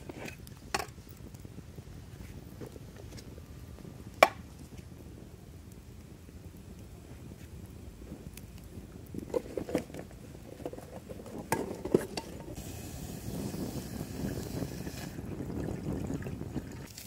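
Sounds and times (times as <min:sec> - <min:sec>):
camping stove hissing: 0:00.0 - 0:17.0.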